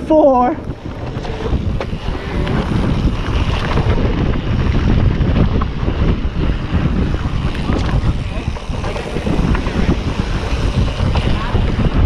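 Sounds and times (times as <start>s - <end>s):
wind buffeting microphone: 0.0s - 12.0s
bike clicks and knocks: 0.6s - 12.0s
tyre rumble on dirt trail: 0.6s - 12.0s.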